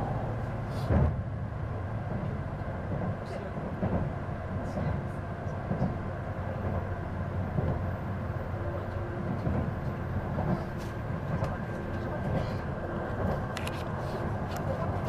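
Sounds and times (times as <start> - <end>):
train cabin low rumble: 0.0 - 15.0.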